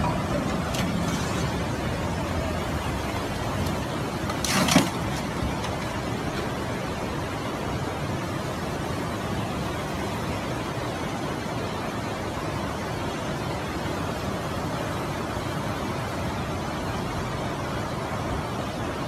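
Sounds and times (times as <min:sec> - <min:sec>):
river in flood rushing: 0:00.0 - 0:19.0.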